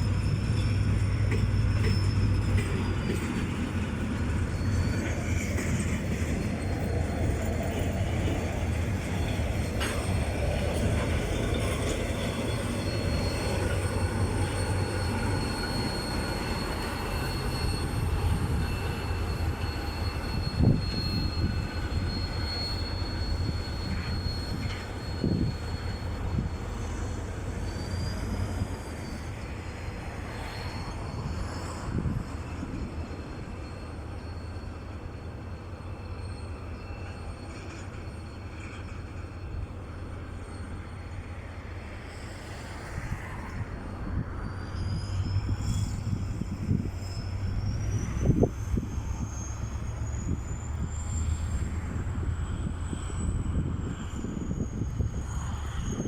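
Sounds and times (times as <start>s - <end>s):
locomotive engine rumbling: 0.0s - 56.0s.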